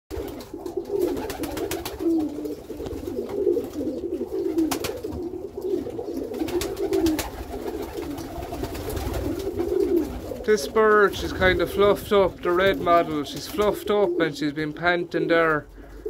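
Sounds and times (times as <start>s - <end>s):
pigeons cooing: 0.1s - 16.0s.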